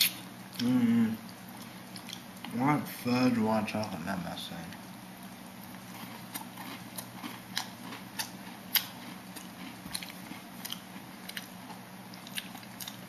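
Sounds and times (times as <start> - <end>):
chewing crunchy food: 0.0 - 2.6, 4.7 - 13.0.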